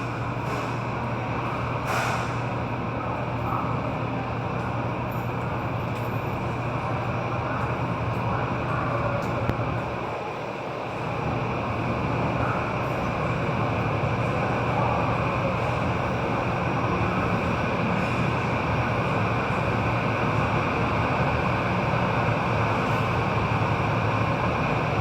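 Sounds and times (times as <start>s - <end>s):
jet engines idling with whine: 0.0s - 25.0s.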